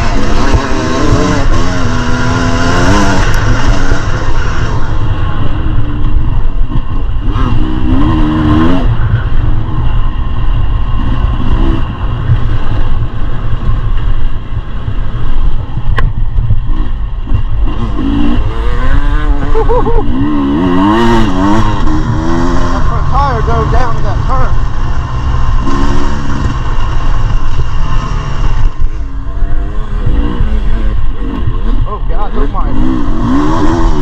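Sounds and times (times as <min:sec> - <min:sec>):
low rumble: 0:00.0 - 0:34.0
two-stroke motorcycle engine revving: 0:00.0 - 0:34.0.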